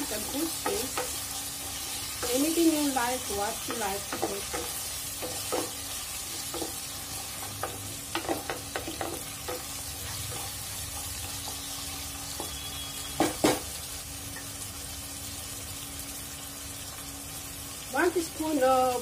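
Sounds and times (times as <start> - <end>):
onions and meat sizzling in oil: 0.0 - 19.0.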